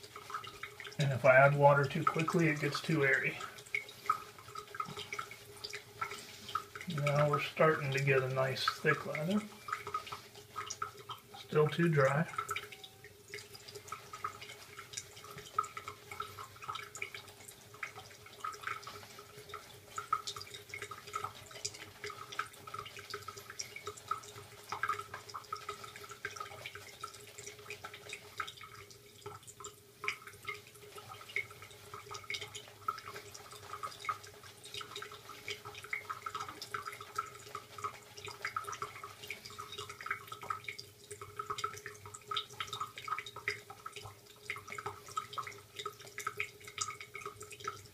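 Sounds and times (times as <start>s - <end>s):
tap running at a trickle: 0.0s - 47.9s
water dripping and splashing: 0.0s - 47.9s.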